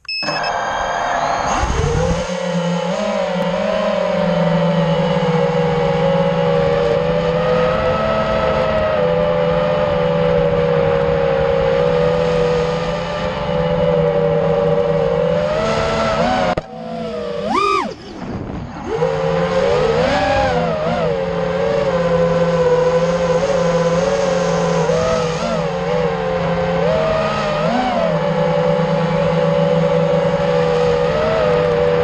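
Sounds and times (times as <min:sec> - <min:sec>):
quadcopter motors buzzing whine: 0:00.0 - 0:32.0.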